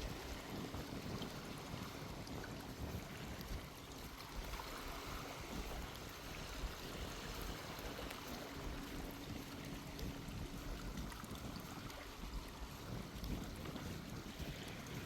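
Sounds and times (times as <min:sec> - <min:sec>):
small waves washing on shore: 0:00.0 - 0:15.0
wind rumbling on microphone: 0:00.0 - 0:15.0.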